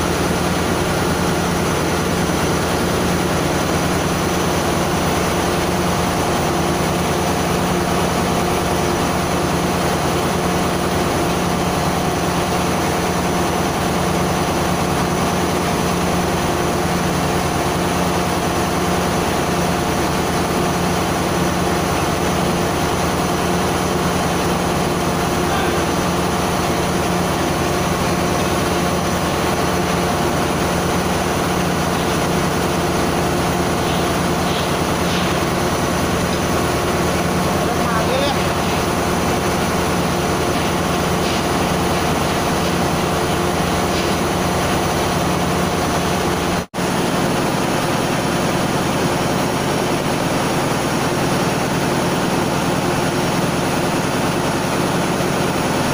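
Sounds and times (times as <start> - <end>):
engine room machinery humming: 0.0 - 55.9.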